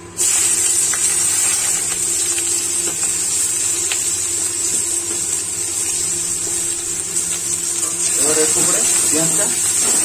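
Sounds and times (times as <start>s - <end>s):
onions sizzling in hot oil: 0.0s - 10.0s
oil popping and crackling: 0.2s - 10.0s.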